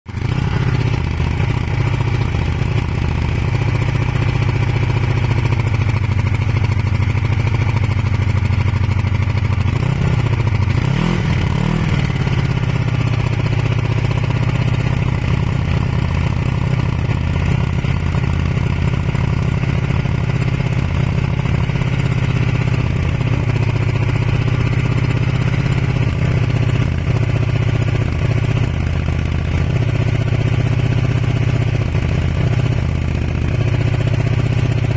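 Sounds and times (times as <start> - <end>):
motorcycle engine idling: 0.1 - 34.9
motorcycle engine revving: 0.1 - 34.9.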